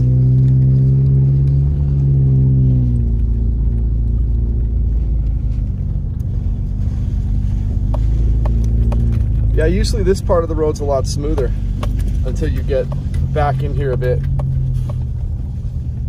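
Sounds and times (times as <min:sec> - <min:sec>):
droning hum: 0:00.0 - 0:16.0
engine and road rumble: 0:00.0 - 0:16.0.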